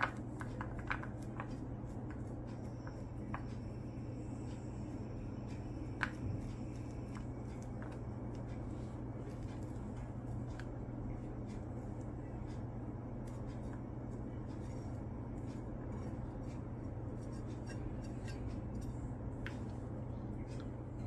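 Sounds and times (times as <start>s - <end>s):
low hum: 0.0s - 21.0s
utensil clicking and tapping: 0.0s - 21.0s.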